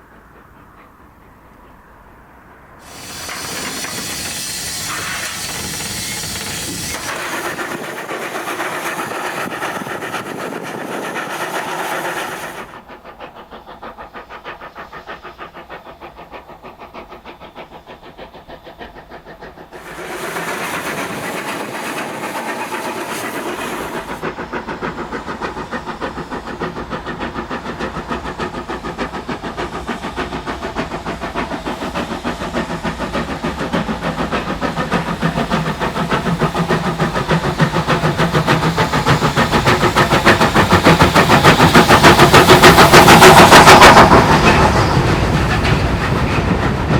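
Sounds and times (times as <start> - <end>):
steam locomotive exhaust beats: 0.0 - 46.9.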